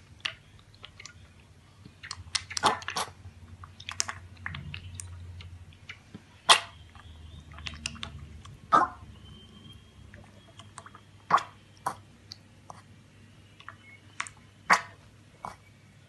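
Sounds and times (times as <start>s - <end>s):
piglet drinking milk: 0.0s - 15.8s.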